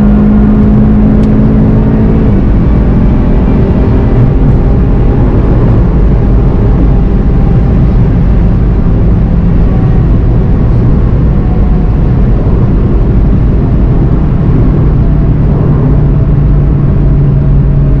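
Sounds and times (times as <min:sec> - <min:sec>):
car engine at high speed: 0:00.0 - 0:18.0
road and wind noise: 0:00.0 - 0:18.0.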